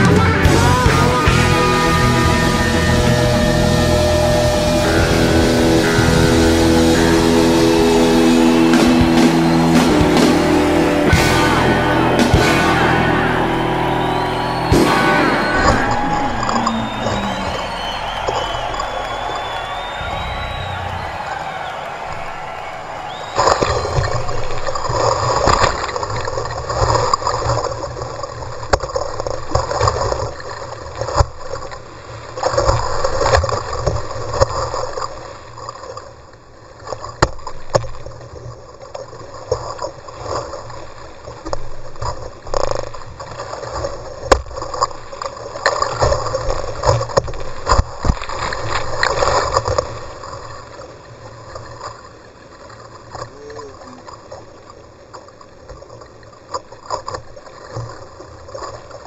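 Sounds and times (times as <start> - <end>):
whitewater rushing and splashing: 0.0 - 54.4
paddle strokes: 2.8 - 59.0.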